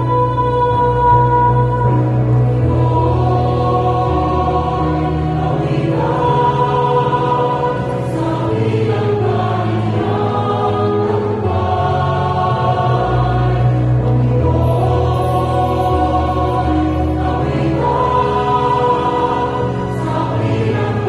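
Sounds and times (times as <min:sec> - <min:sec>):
cantors singing a psalm: 0:00.0 - 0:21.0
sustained instrumental accompaniment: 0:00.0 - 0:21.0.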